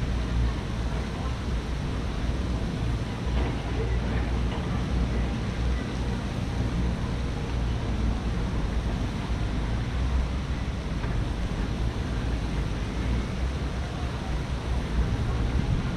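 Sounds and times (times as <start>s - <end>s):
steady rushing noise: 0.0s - 15.9s
wind buffeting microphone: 0.0s - 15.9s.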